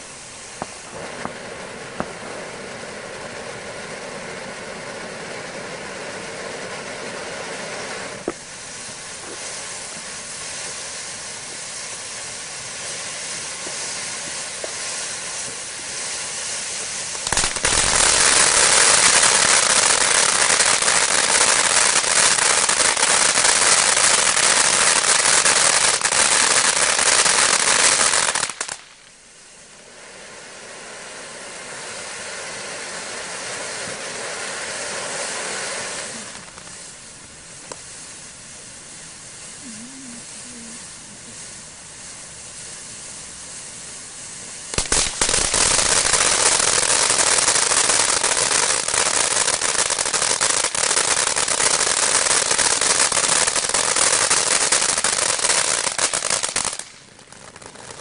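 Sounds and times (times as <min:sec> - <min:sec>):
firework fountain hissing and crackling: 0:00.0 - 0:58.0.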